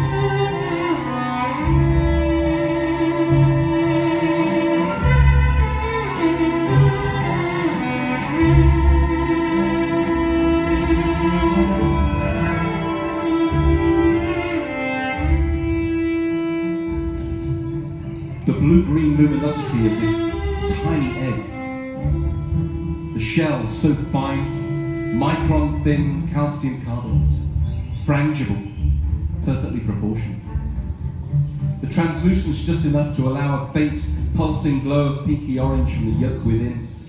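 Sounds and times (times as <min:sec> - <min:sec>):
bowed cello: 0:00.0 - 0:37.0
low drone: 0:00.0 - 0:37.0.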